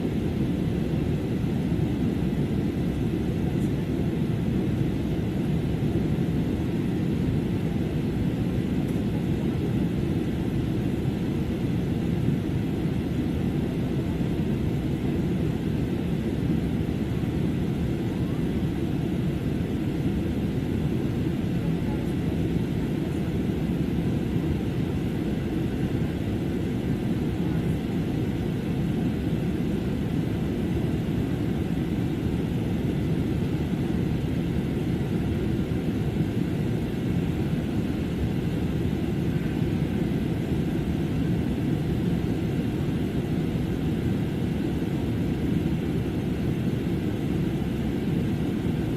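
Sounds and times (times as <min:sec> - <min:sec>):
jet airliner cabin rumble: 0:00.0 - 0:48.9.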